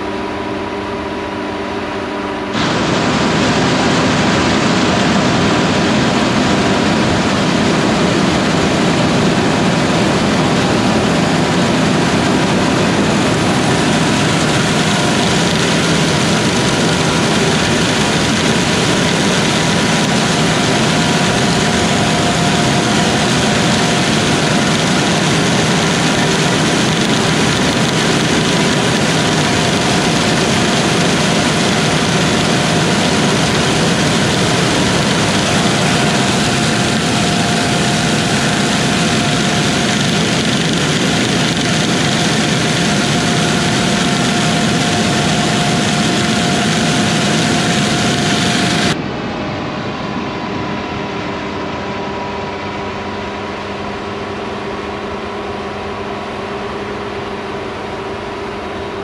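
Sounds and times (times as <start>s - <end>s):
faint steady whine: 0.0s - 49.0s
loud machine noise: 0.0s - 59.0s.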